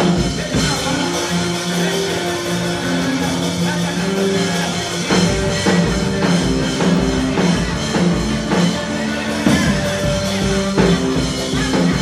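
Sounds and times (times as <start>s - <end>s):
bass line: 0.0s - 12.0s
held chords: 0.0s - 12.0s.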